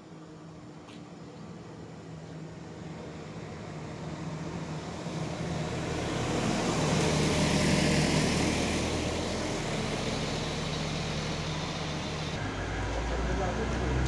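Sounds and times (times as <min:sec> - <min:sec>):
diesel railcar engine hum: 0:00.0 - 0:14.0
train rumble and hiss: 0:00.0 - 0:14.0.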